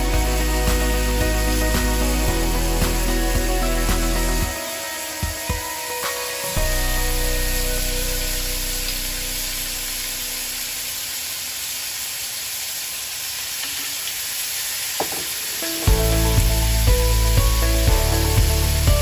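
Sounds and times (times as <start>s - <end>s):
fish sizzling in a pan: 0.0s - 19.0s.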